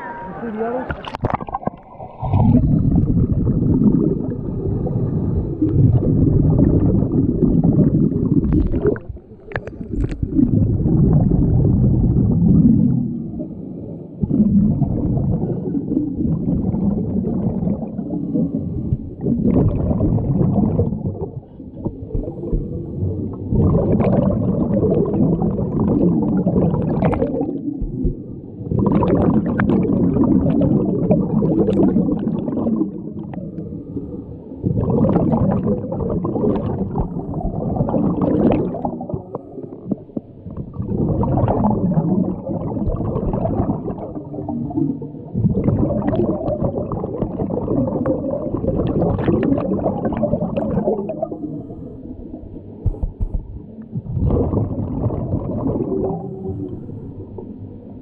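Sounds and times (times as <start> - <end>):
underwater regulator breathing bubbles: 0.0 - 13.6, 14.2 - 33.7, 34.6 - 51.8, 52.8 - 56.9.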